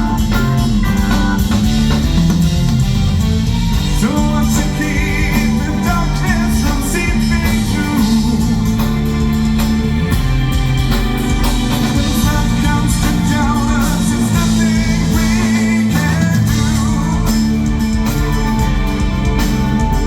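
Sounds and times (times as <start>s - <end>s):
metal band playing loudly: 0.0s - 20.0s.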